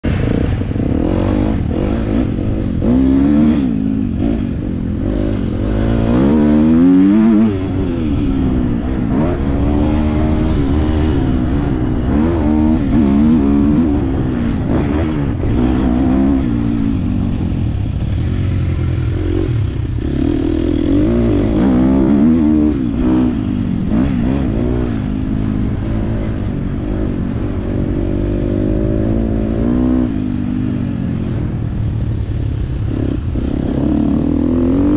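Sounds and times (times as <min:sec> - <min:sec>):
motocross bike engine revving: 0:00.1 - 0:31.6, 0:32.8 - 0:34.9.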